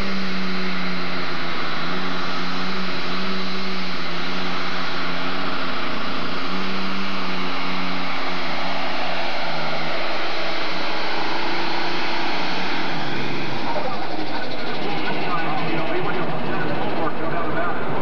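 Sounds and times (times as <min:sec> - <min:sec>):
tractor engine at full throttle: 0:00.0 - 0:18.0.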